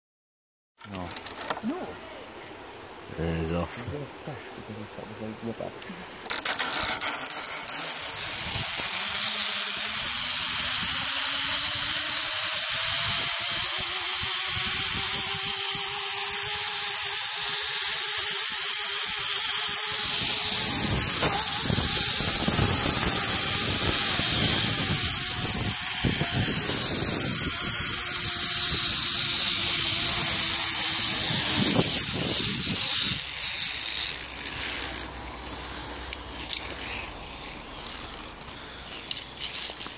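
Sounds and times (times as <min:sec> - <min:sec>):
zip-line trolley whirring on cable: 0:06.2 - 0:39.9.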